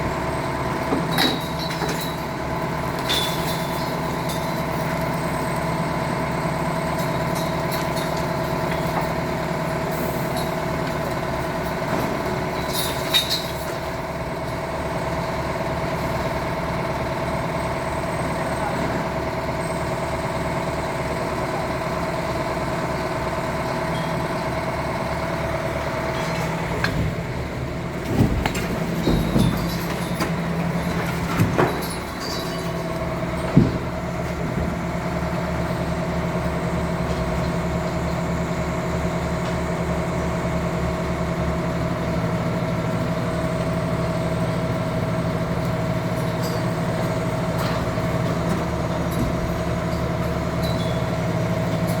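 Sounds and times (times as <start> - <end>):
heavy machinery engine idling: 0.0 - 52.0.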